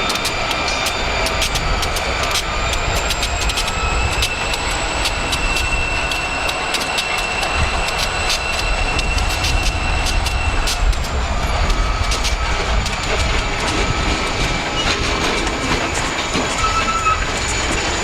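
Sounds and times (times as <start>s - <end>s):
diesel locomotive rumble: 0.0s - 18.0s
train wheels clicking: 0.0s - 18.0s.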